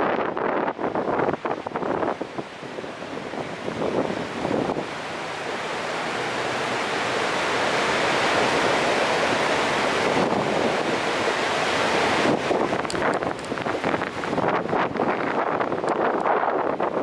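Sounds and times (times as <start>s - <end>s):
waterfall rushing: 1.2s - 17.0s.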